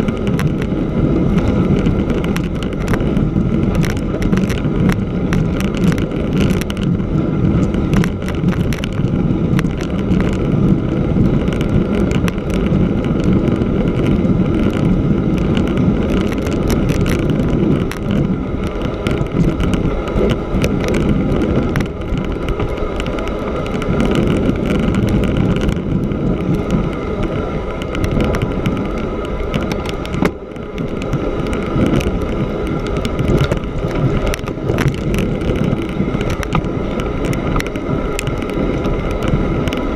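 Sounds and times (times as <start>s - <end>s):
bike tyre rumbling on snow: 0.0s - 39.9s
small clicks and rattles: 0.0s - 39.9s
wind on microphone: 0.0s - 39.9s.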